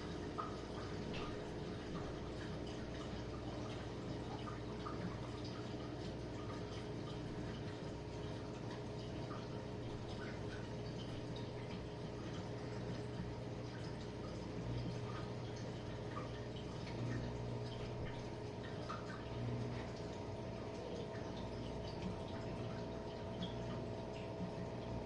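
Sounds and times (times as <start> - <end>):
dishwasher pump hum: 0.0 - 25.0.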